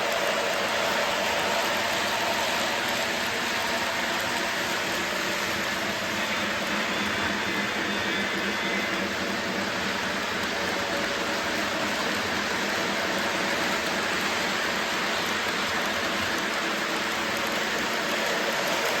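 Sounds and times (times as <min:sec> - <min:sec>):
train engine droning: 0:00.0 - 0:19.0.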